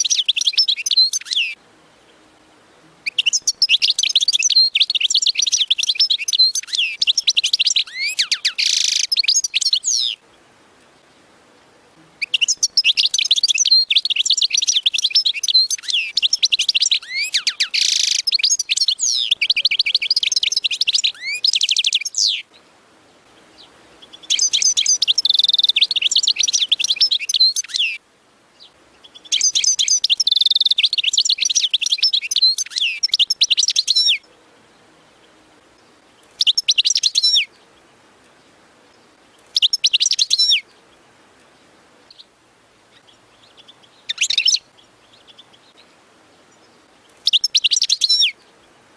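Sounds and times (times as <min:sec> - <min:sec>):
finch singing: 0:00.0 - 0:28.0, 0:28.6 - 0:42.3, 0:42.9 - 0:48.8.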